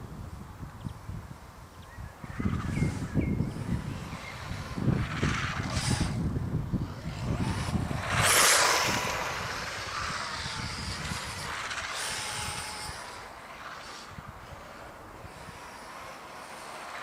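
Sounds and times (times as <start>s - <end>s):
thin motor whine: 0.0s - 17.0s
rc car passing by: 1.9s - 17.0s.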